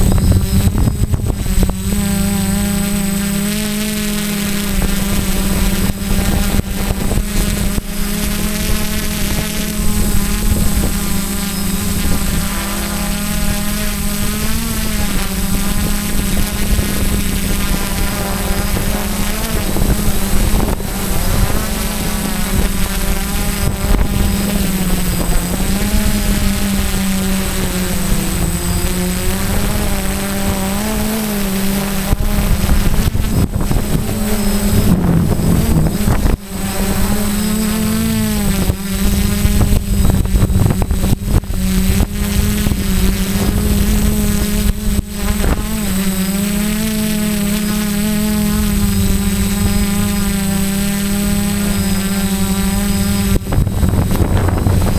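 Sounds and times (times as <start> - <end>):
drone propellers whining: 0.0 - 54.9
rough buffeting noise: 0.0 - 54.9.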